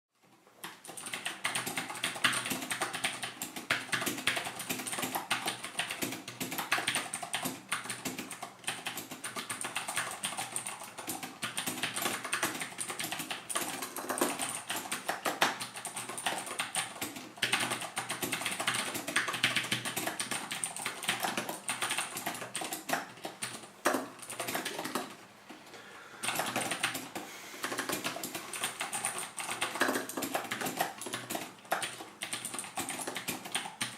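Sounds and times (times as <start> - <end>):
fast typing on mechanical keyboard: 0.2 - 25.2, 26.2 - 33.9.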